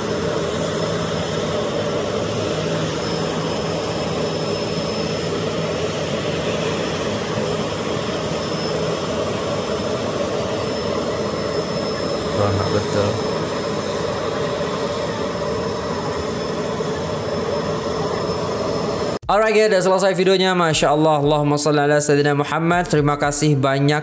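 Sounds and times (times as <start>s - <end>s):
jet turbine running: 0.0s - 20.1s.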